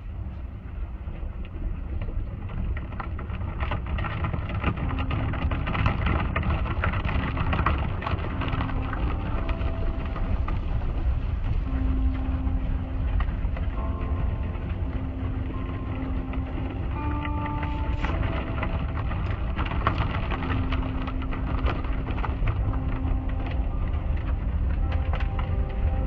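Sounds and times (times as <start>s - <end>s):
low machine rumble: 0.0s - 26.0s.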